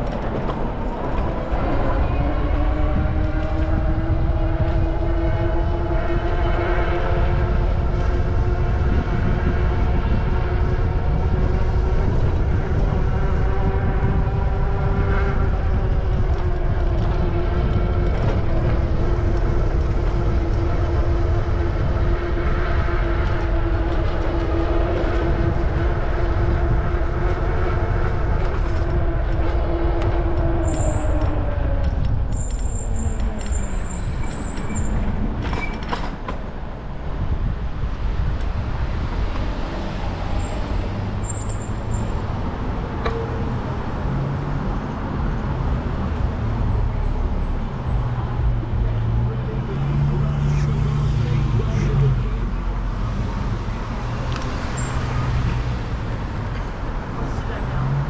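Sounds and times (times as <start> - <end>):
wind rush on microphone: 0.0 - 58.0.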